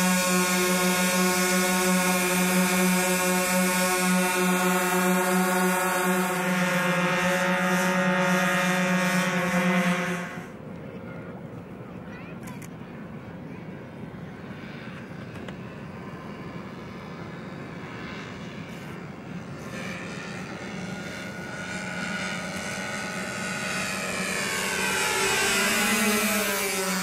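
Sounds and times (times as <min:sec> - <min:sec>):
aircraft piston engines droning: 0:00.0 - 0:27.0.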